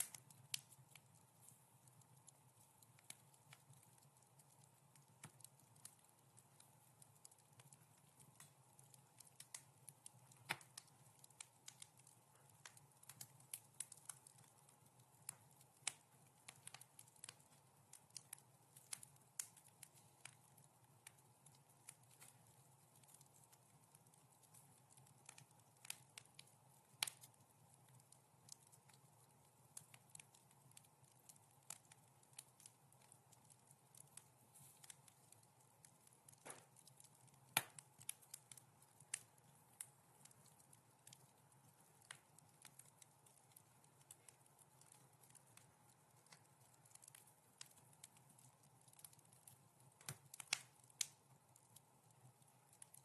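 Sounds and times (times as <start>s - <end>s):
faint low background noise: 0.0s - 53.0s
wood fire crackling: 0.0s - 53.0s.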